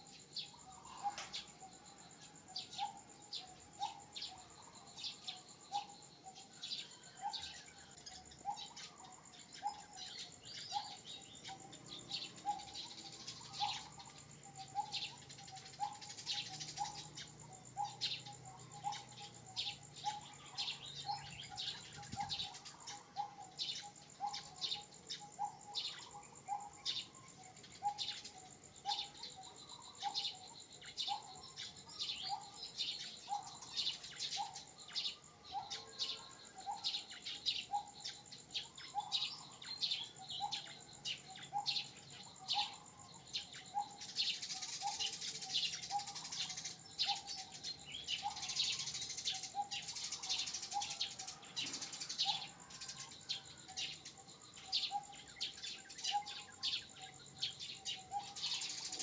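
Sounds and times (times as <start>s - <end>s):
birds chirping and calling: 0.0s - 59.0s
dense high chirping chatter: 0.0s - 59.0s
high insect whine: 0.0s - 59.0s.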